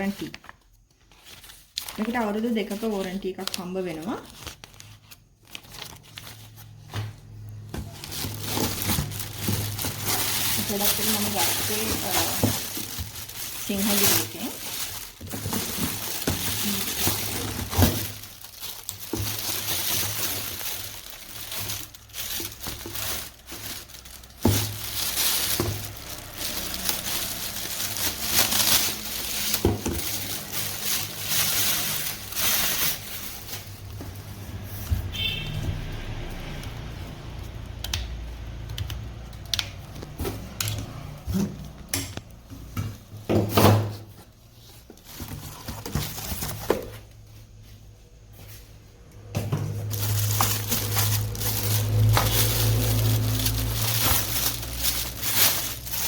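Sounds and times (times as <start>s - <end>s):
plastic packaging crinkling: 0.0s - 56.0s.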